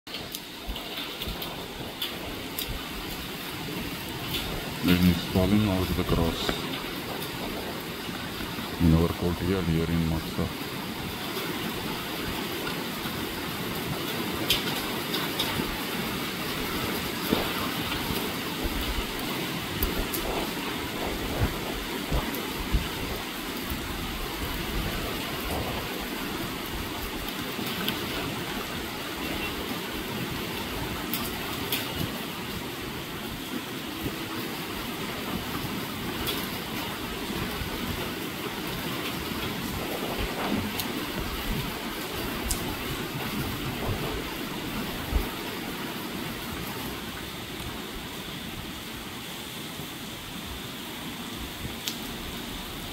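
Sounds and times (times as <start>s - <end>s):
raindrops tapping close by: 0.1s - 49.6s, 51.4s - 52.9s
gusting wind: 0.1s - 52.9s
heavy rain: 0.1s - 52.9s.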